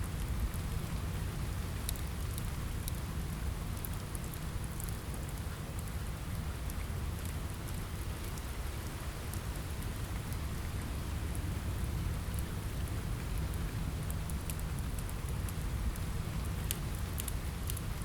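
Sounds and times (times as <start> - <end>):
rain on a window: 0.0 - 18.0.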